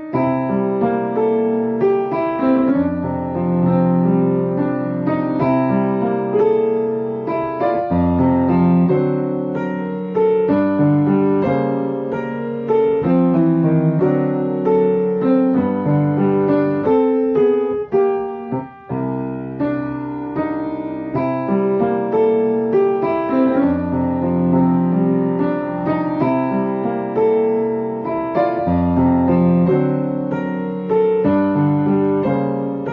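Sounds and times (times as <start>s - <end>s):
gentle piano melody: 0.0s - 32.9s.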